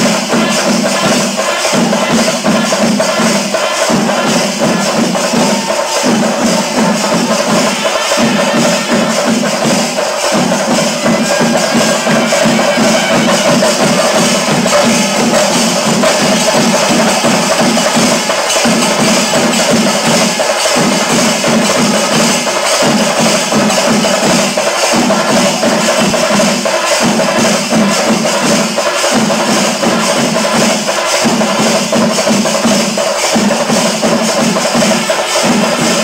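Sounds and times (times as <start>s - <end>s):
jingling and clicking percussion: 0.0s - 36.0s.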